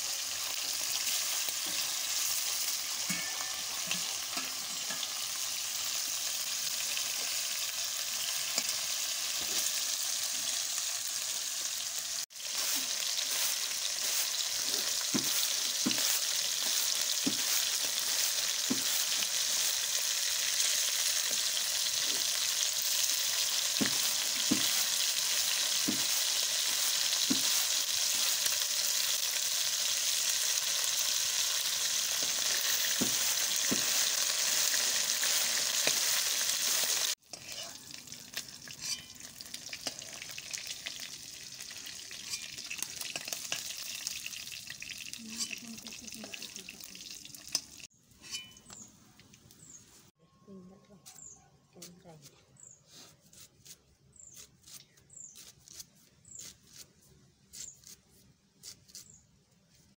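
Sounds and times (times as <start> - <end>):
food sizzling in hot oil: 0.0 - 48.4.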